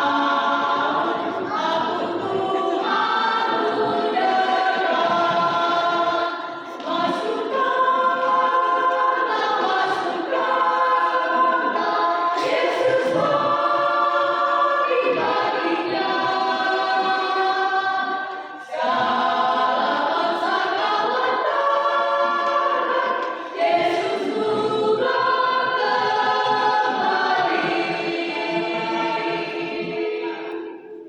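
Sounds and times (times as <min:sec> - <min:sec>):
choir singing a hymn: 0:00.0 - 0:31.0.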